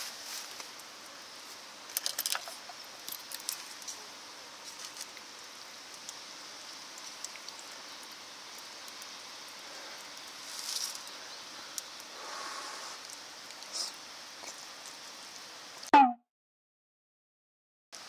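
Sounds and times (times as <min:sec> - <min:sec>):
bright rustle: 0:00.0 - 0:15.8
light rain patter: 0:00.0 - 0:15.9.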